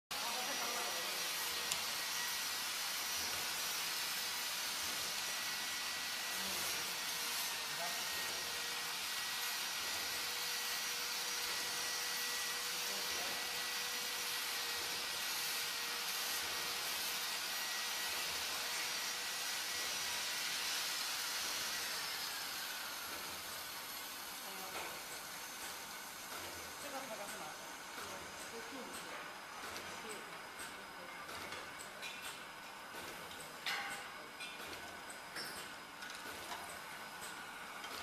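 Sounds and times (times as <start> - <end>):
machine airy hiss: 0.2 - 30.8
faint machine whines: 0.2 - 38.0.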